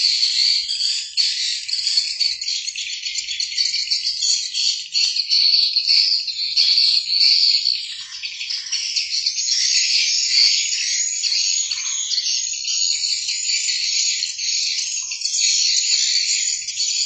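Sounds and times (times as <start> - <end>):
chorus of frogs and insects: 0.0 - 17.0.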